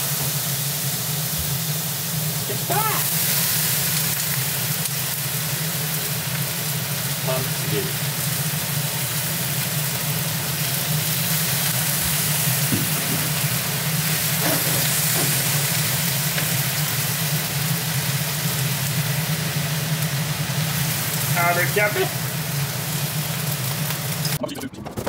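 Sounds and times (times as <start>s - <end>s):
vegetables sizzling in wok: 0.0s - 24.4s.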